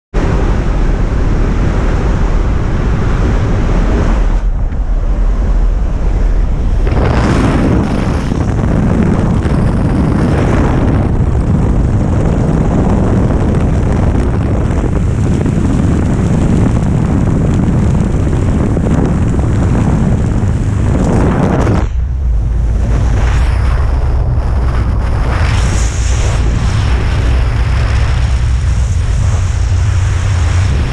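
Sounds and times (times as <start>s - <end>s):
aircraft engine noise: 0.2s - 30.9s
wind buffeting microphone: 0.2s - 30.9s.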